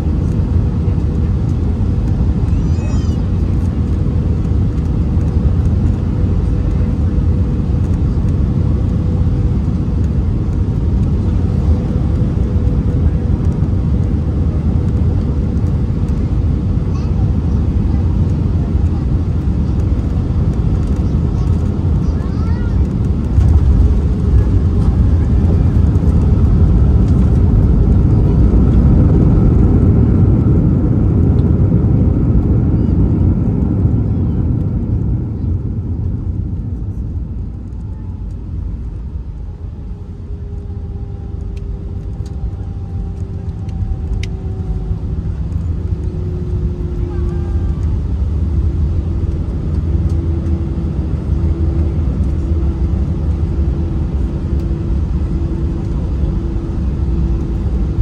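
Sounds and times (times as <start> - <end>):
jet engine hum with whining: 0.0 - 58.0
wheels rumbling on runway: 0.0 - 58.0.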